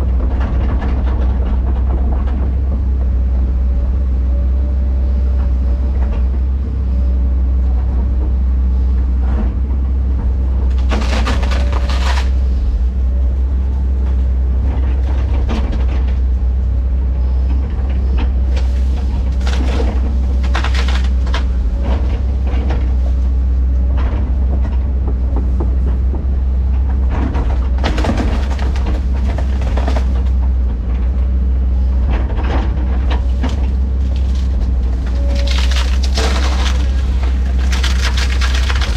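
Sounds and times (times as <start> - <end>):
machine clanking and scraping: 0.0 - 3.3, 9.2 - 13.2, 13.9 - 16.6, 17.2 - 38.9
heavy diesel engine running: 0.0 - 38.9.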